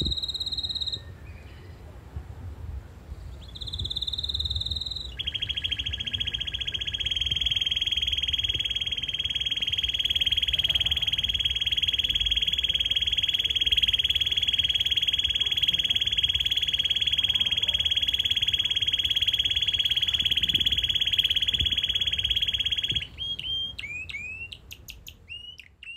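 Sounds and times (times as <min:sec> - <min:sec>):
canary trilling and chirping: 0:00.0 - 0:01.1, 0:03.4 - 0:25.9.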